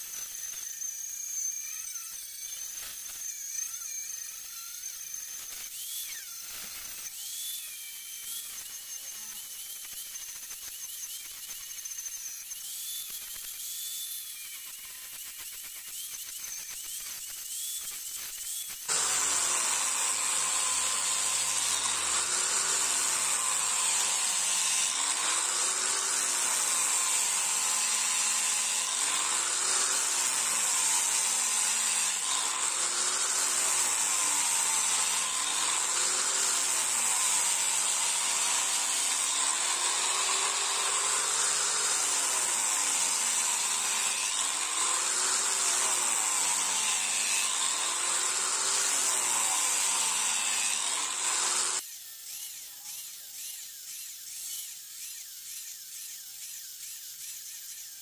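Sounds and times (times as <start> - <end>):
angle grinder sanding steel: 0.0 - 58.0.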